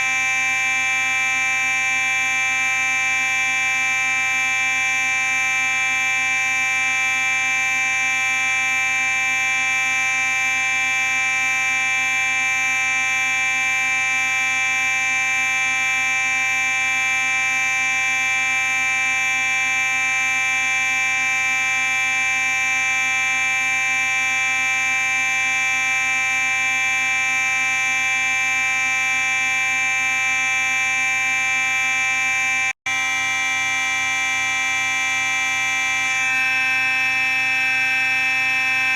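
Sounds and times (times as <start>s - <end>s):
fire alarm buzzing tone: 0.0s - 38.9s.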